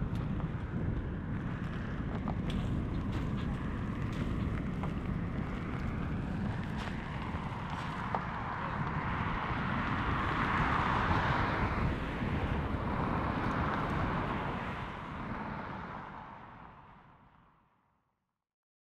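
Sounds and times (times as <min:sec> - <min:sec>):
jet engines at climb power: 0:00.0 - 0:17.6.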